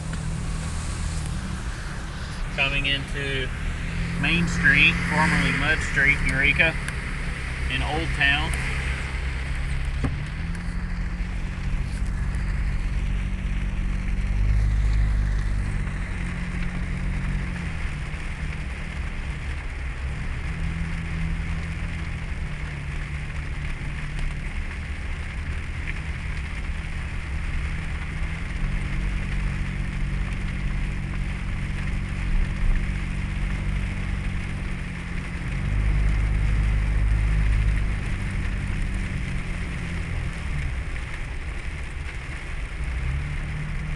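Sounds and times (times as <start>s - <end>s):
tyres hissing through floodwater: 0.0s - 43.9s
vehicle engine running: 0.0s - 43.9s.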